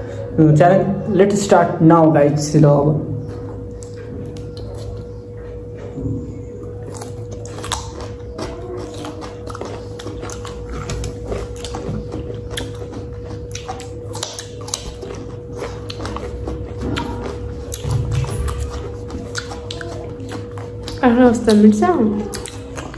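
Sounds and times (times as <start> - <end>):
crunchy chewing: 3.1 - 22.9.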